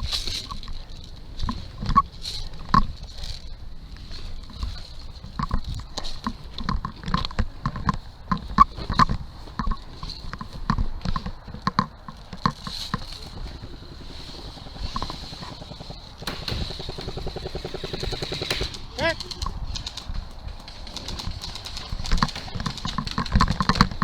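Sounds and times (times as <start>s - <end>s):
rapid ticks: 0.0s - 24.0s.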